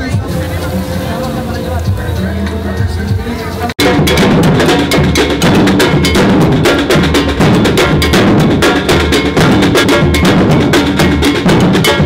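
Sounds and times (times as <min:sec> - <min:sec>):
bass and snare drums playing: 0:00.0 - 0:12.0.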